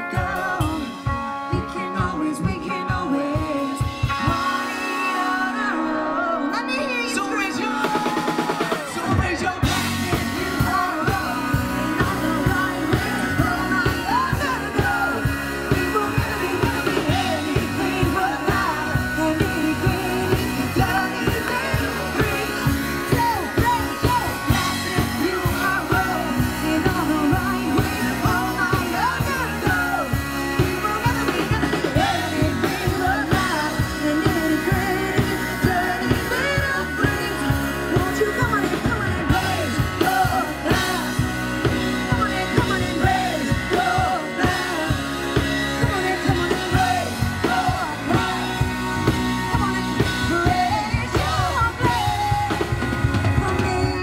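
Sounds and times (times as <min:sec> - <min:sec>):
live pop-rock band: 0:00.0 - 0:54.0
person singing: 0:00.0 - 0:54.0.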